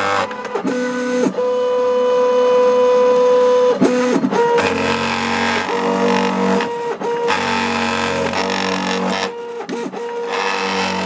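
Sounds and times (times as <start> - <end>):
cnc router stepper motors whining: 0.0 - 11.0.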